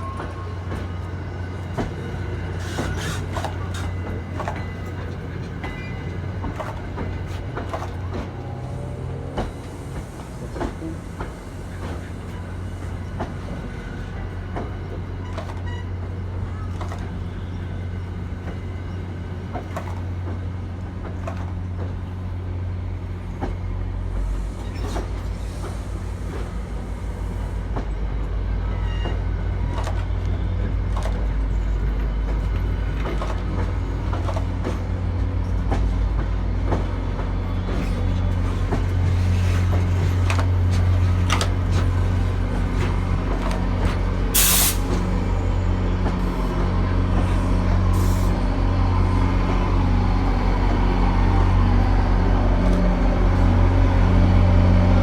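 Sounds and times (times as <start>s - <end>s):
wheels clunking over rail joints: 0.0s - 23.6s, 24.2s - 55.0s
diesel locomotive drone: 0.0s - 55.0s.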